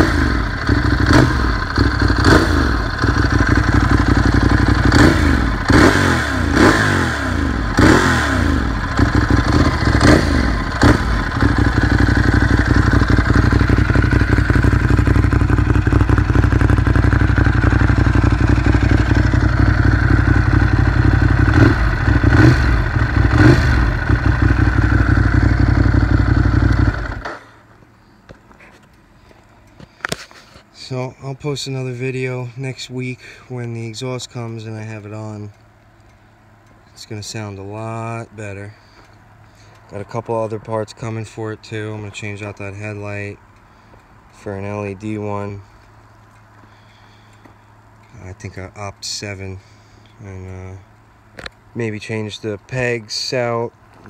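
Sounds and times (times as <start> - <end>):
motorcycle engine revving and idling: 0.0 - 27.8, 36.6 - 54.0.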